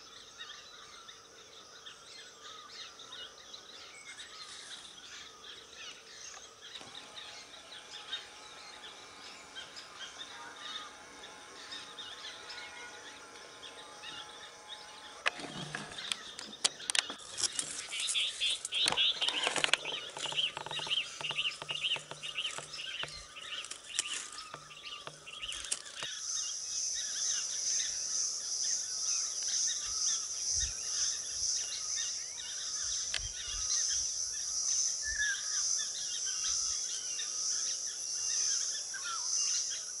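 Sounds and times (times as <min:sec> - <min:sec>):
birds chirping: 0:00.0 - 0:40.0
pulsing high-pitched insect drone: 0:00.0 - 0:40.0.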